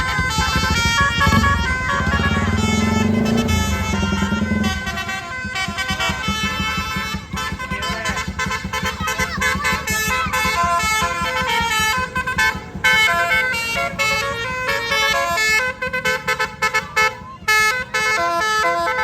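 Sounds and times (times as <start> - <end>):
engine running: 0.0 - 19.0
multi-tone vehicle horn tune: 0.0 - 19.0.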